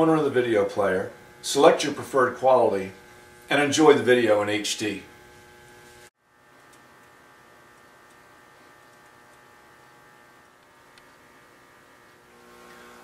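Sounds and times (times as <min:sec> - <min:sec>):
faint hum with hiss: 0:00.0 - 0:13.0.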